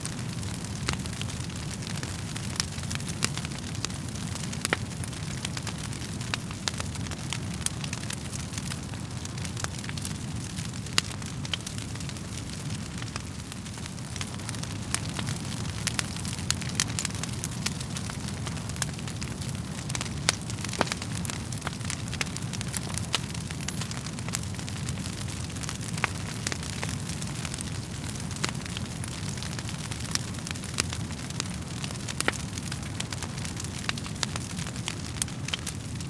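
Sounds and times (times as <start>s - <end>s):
burning logs crackling and popping: 0.0s - 36.0s
flames rumbling: 0.0s - 36.0s.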